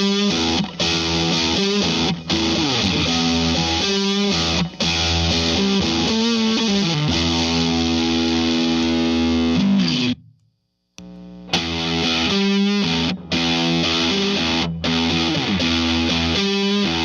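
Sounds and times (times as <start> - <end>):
distorted electric guitar chord: 0.0 - 10.2, 11.1 - 17.0.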